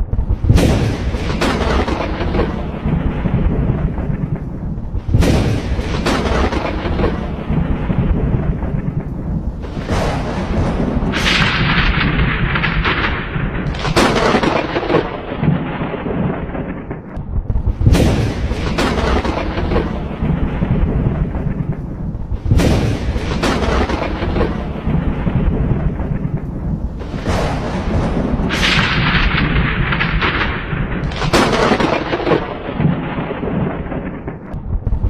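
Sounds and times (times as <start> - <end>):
low thunder rumble: 0.0 - 35.0
thunderclaps: 0.0 - 35.0.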